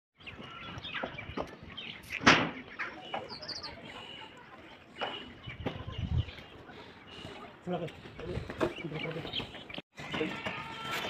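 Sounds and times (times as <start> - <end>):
birds chirping: 0.2 - 11.0
open-air background noise: 0.2 - 11.0.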